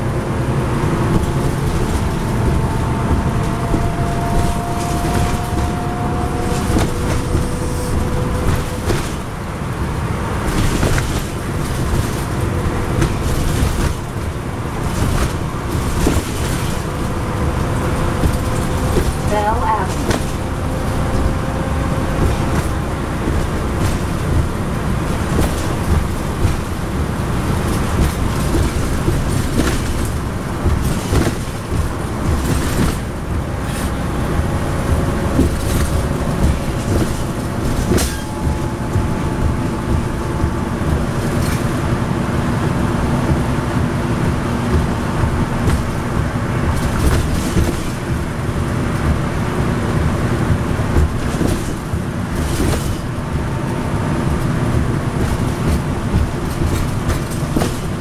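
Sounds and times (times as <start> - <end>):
bus engine and tyre rumble: 0.0 - 58.0.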